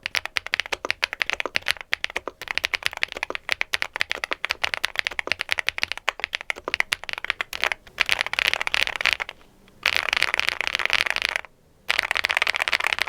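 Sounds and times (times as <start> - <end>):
typing on mechanical keyboard: 0.0 - 13.0.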